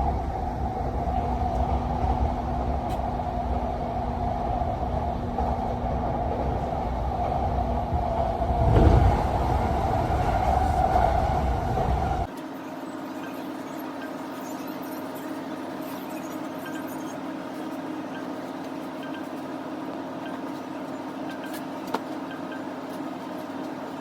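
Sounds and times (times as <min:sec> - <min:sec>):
moving train: 0:00.0 - 0:24.0.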